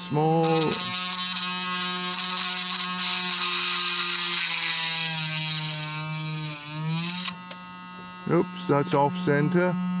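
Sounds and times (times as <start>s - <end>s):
micro drill whining into wood: 0.0s - 10.0s.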